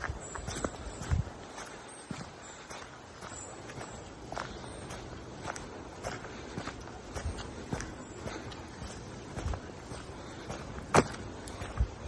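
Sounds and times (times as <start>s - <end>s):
footsteps walking on a path: 0.0s - 12.0s.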